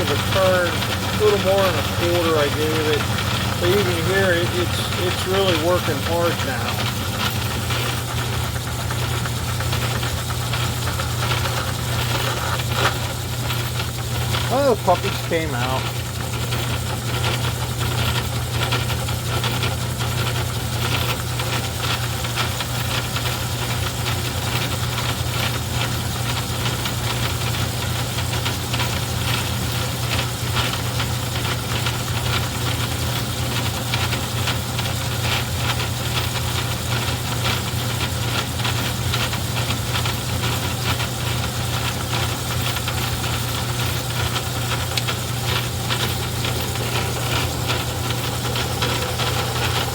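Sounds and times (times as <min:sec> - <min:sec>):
dense fast rattle: 0:00.0 - 0:27.5, 0:28.1 - 0:49.9
lathe motor hum: 0:00.0 - 0:49.9.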